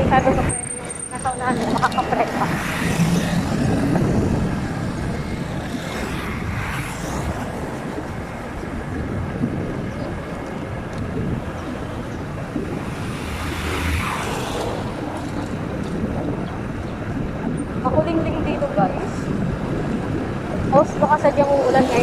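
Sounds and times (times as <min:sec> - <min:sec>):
road traffic rush: 0:00.0 - 0:22.0.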